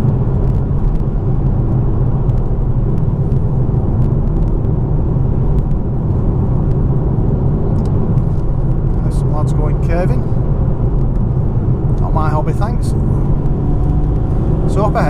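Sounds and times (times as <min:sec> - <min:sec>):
in-cabin engine and road noise: 0:00.0 - 0:15.0.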